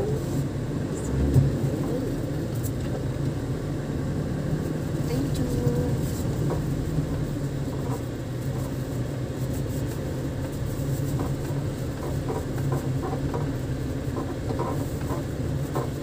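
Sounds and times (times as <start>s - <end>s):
motor vehicle humming: 0.0s - 16.0s.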